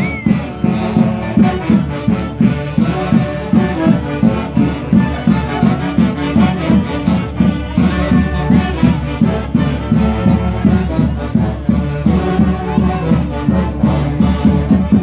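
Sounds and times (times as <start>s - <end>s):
folk orchestra dance tune: 0.0s - 15.0s.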